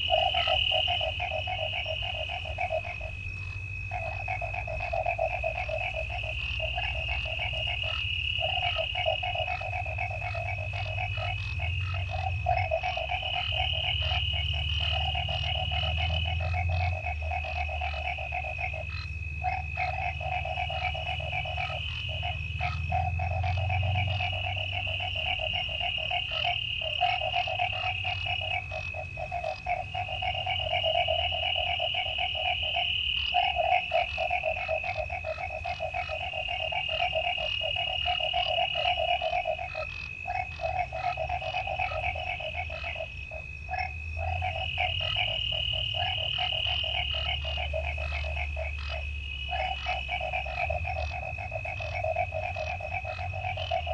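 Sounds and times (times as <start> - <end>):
crickets trilling: 0.0 - 53.9
frogs calling in pulsing trill: 0.0 - 53.9
high insect trill: 0.0 - 53.9.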